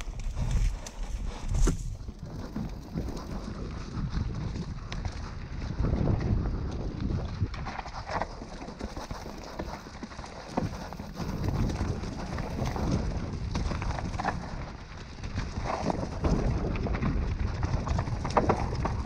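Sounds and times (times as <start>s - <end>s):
bike tyres rolling over dirt: 0.0s - 19.0s
wind rumble on microphone: 0.0s - 19.0s.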